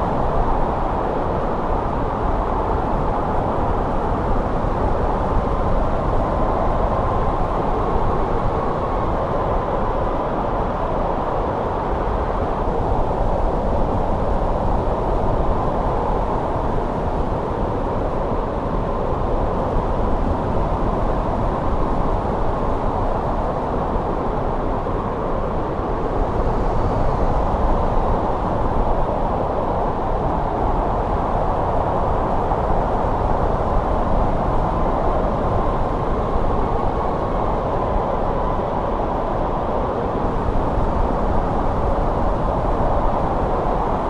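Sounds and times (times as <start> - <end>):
snowstorm wind rushing: 0.0 - 44.0.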